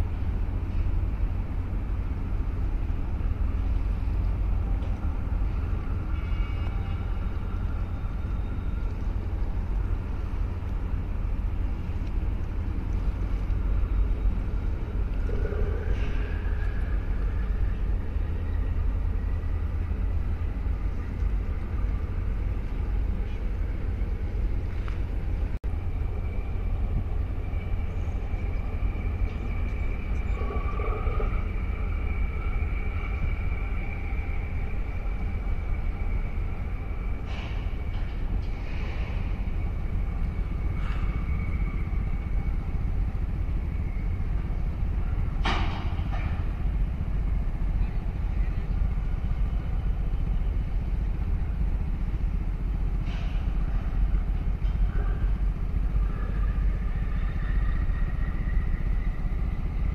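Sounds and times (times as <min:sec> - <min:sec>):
ship engine low rumble: 0:00.0 - 0:59.9.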